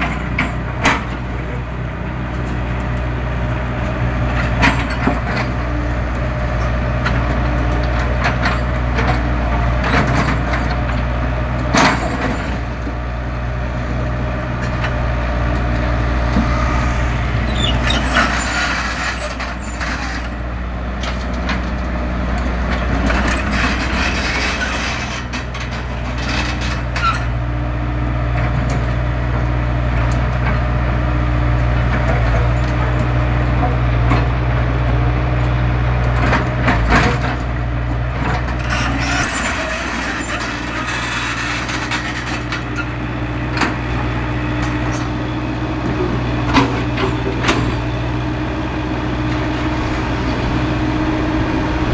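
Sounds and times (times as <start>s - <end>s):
excavator diesel engine: 0.0s - 51.9s.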